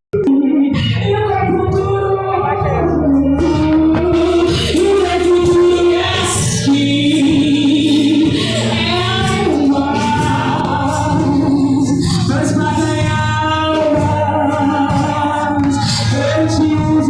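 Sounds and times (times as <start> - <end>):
musical accompaniment: 0.1 - 17.0
gospel church singing: 0.2 - 17.0.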